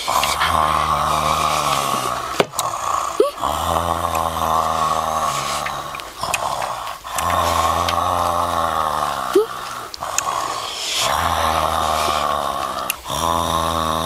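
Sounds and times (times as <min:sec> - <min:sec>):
boy humming: 0:00.0 - 0:14.0
steady hiss: 0:00.0 - 0:14.0.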